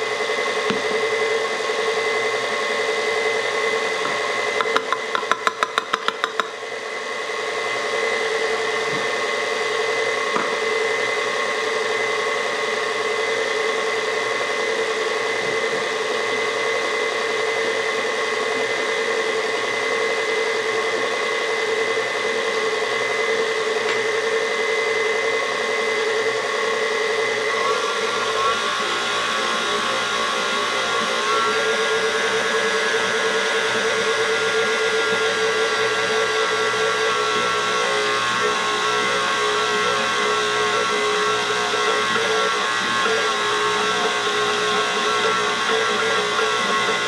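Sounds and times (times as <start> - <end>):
stand mixer motor hum: 0.0 - 47.0.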